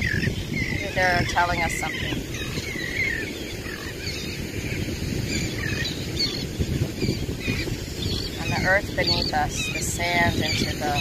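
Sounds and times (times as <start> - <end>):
birds chirping: 0.0 - 11.0
wind rumble on microphone: 0.0 - 11.0.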